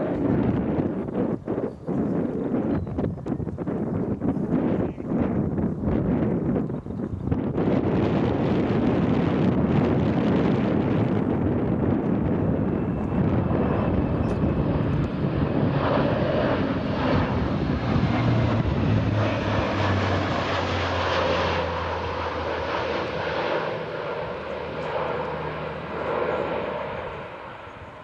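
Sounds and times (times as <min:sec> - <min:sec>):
military aircraft flying overhead: 0:00.0 - 0:28.0.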